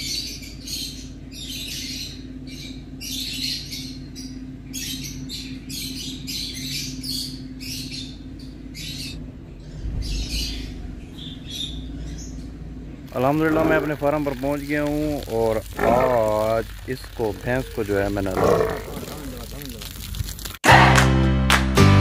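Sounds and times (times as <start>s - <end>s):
car engine idling: 0.0s - 19.7s
birds chirping: 0.0s - 20.5s
deep rumble: 0.0s - 20.6s.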